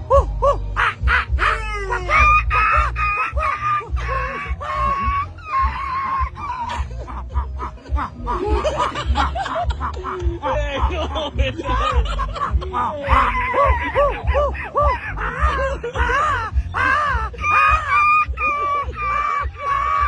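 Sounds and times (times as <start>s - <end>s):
animal-like vocal calls: 0.0s - 9.0s, 12.6s - 20.0s
background music with low beat: 0.0s - 20.0s.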